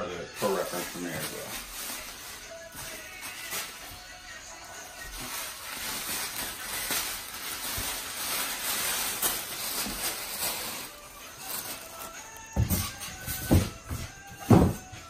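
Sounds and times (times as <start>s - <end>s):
plastic wrapping crinkling: 0.4s - 15.0s.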